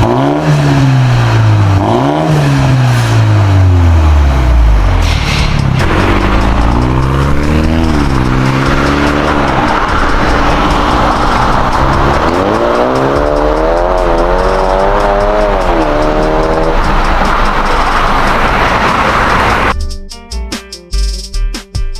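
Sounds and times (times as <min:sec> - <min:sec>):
car engine revving: 0:00.0 - 0:19.7.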